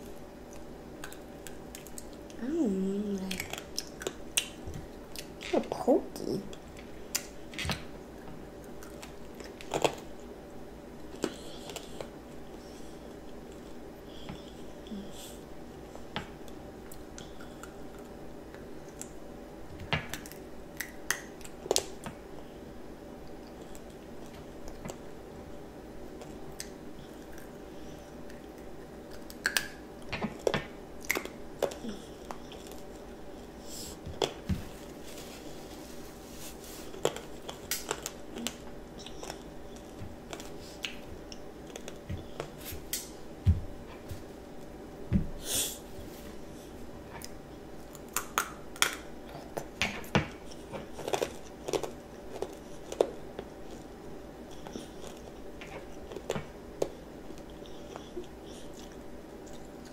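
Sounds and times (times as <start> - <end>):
child chewing candy: 0.0 - 19.3, 23.2 - 59.9
background hum: 0.0 - 59.9.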